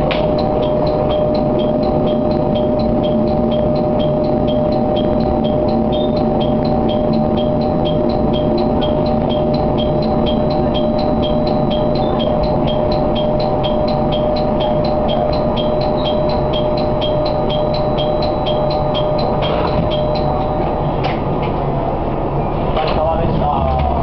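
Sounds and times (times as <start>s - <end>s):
rapid high ticking: 0.0s - 20.8s
diesel railcar running drone: 0.0s - 24.0s.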